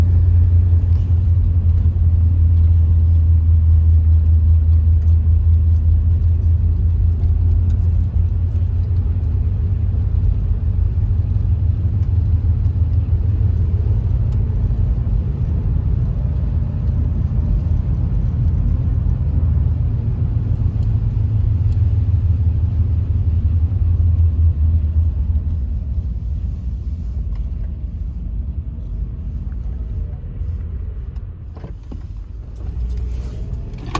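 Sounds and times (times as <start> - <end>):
car interior road rumble: 0.0 - 33.9.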